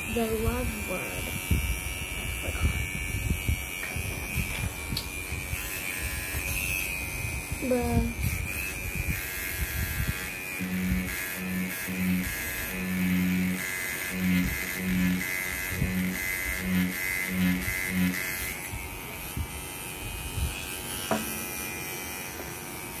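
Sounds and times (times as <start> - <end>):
tattoo pen buzzing: 0.0 - 23.0.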